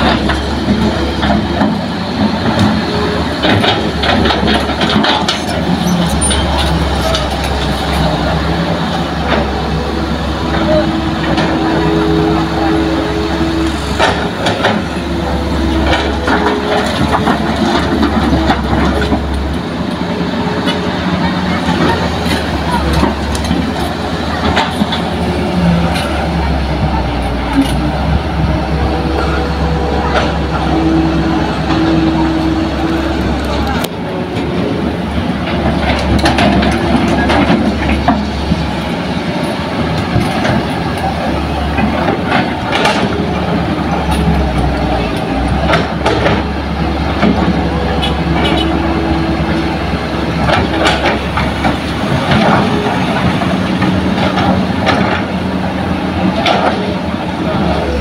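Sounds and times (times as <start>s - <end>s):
excavator diesel engine drone: 0.0s - 58.0s.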